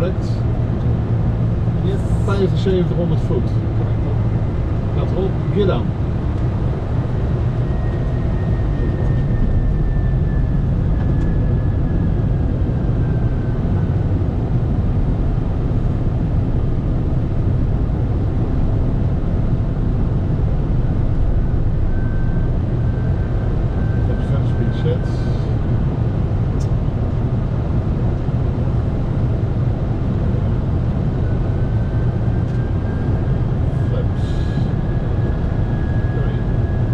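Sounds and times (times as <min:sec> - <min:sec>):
cockpit airflow and engine noise: 0:00.0 - 0:36.9.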